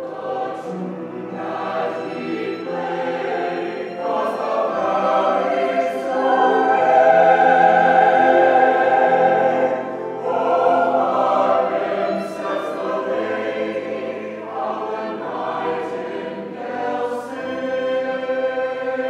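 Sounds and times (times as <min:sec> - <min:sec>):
choir singing in harmony: 0:00.0 - 0:19.0
violin: 0:00.0 - 0:19.0.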